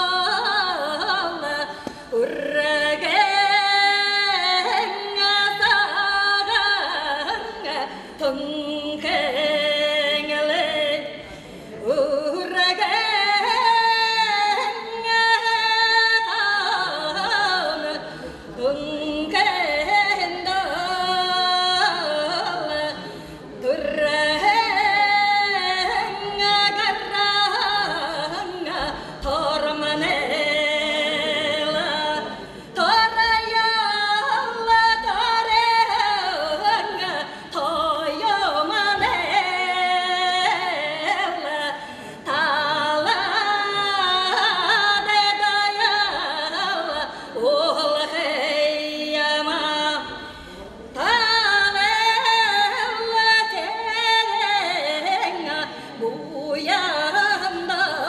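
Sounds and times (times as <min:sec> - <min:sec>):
woman singing unaccompanied: 0:00.0 - 0:11.2, 0:11.8 - 0:18.0, 0:18.6 - 0:23.0, 0:23.6 - 0:50.1, 0:51.0 - 0:58.0.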